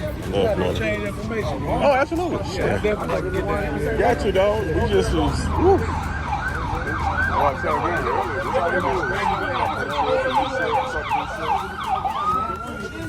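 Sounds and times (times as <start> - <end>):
emergency siren in fast yelp: 0.4 - 13.0.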